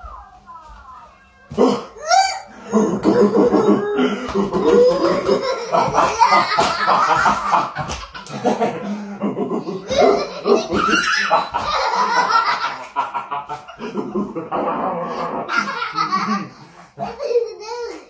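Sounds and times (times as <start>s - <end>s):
toddler laughing: 2.0s - 14.5s, 15.4s - 18.0s
people laughing hard: 2.4s - 17.6s.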